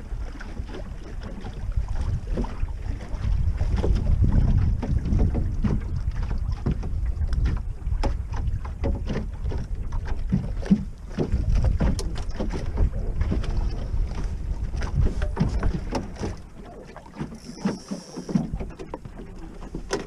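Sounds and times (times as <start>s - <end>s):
water slapping against hull: 0.0s - 20.0s
wind buffeting microphone: 0.0s - 20.0s.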